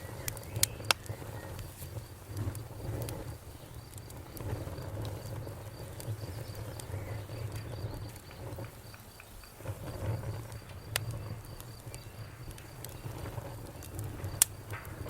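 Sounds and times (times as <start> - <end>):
faint high chirping: 0.0 - 2.0, 3.4 - 15.0
campfire crackling: 0.0 - 15.0.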